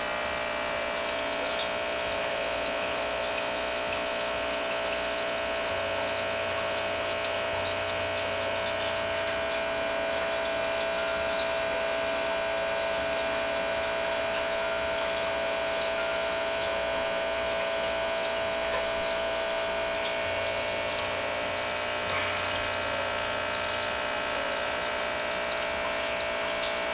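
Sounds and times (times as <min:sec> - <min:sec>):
aquarium pump humming: 0:00.0 - 0:26.9
water trickling and bubbling: 0:00.0 - 0:26.9.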